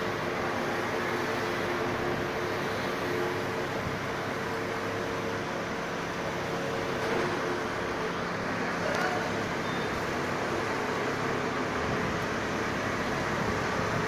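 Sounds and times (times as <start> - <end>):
crane engine humming with whine: 0.0 - 14.0.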